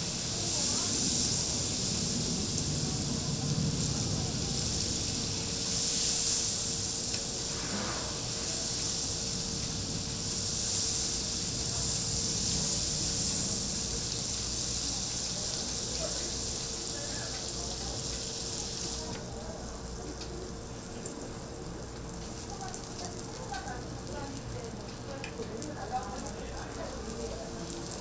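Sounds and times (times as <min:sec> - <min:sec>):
food sizzling on griddle: 0:00.0 - 0:28.0.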